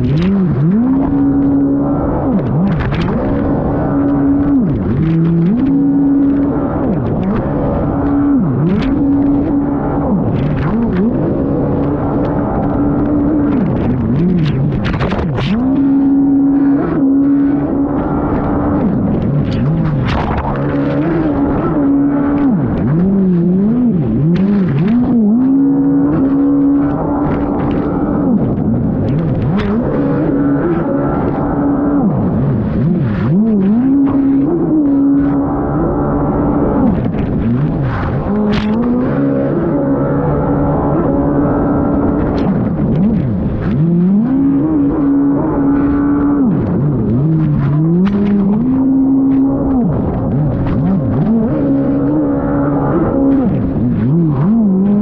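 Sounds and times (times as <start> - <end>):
jet ski engine running hard: 0.0 - 55.0
water splashing against hull: 0.0 - 55.0.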